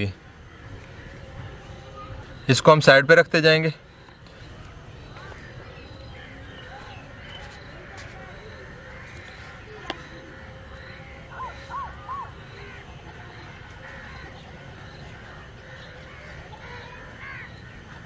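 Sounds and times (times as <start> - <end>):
bird calling: 0.0 - 18.0
low background noise: 0.0 - 18.0.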